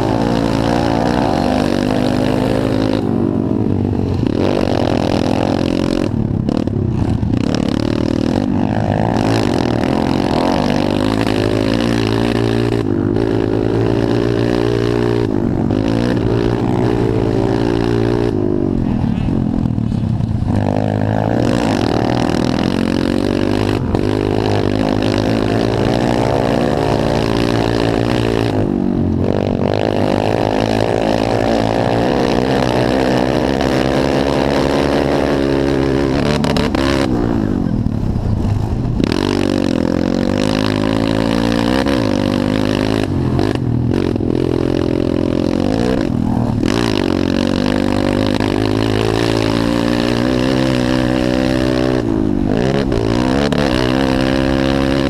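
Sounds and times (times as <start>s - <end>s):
pit bike engines revving: 0.0s - 55.0s.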